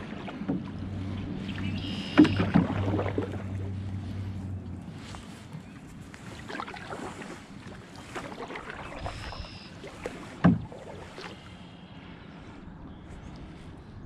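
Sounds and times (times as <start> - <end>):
paddle water splashing: 0.0 - 14.0.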